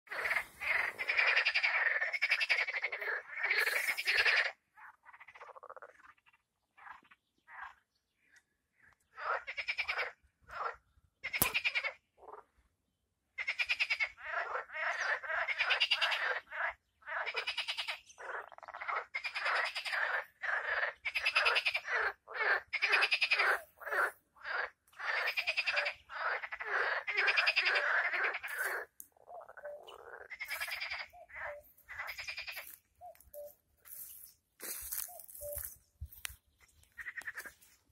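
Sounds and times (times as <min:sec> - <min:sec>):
frogs croaking: 0:00.1 - 0:12.7, 0:13.3 - 0:37.8.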